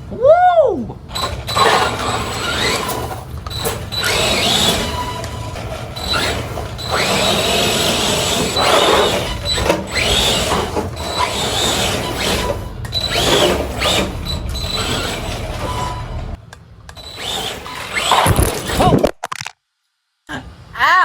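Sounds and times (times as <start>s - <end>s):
drivetrain and tyre noise: 1.0s - 18.8s
rc truck motor whine: 1.1s - 19.0s.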